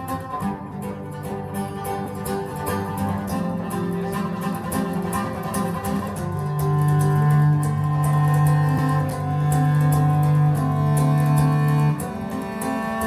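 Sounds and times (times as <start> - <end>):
bowed strings: 0.0 - 13.0
low cello note: 0.0 - 13.0
plucked guitar: 0.0 - 13.0.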